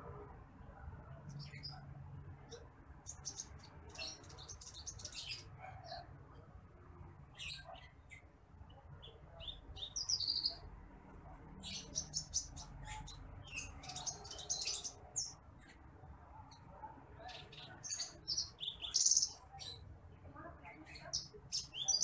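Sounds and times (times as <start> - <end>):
bird chirping and twittering: 1.1 - 6.4, 7.3 - 10.7, 11.3 - 22.0.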